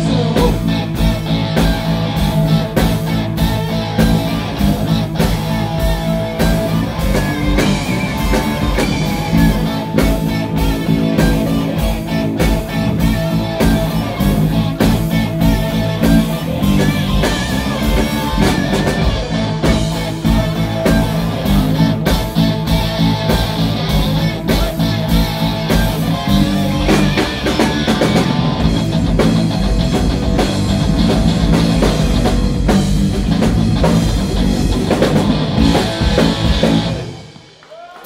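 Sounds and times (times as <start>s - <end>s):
electric guitars: 0.0s - 37.6s
bass guitar: 0.0s - 37.8s
drum kit: 0.0s - 38.0s.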